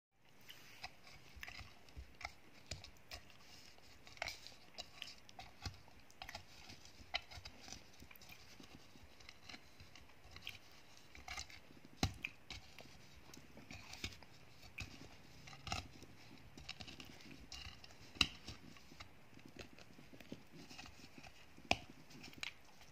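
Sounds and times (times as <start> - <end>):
dry clay crunching and cracking: 0.8 - 22.9.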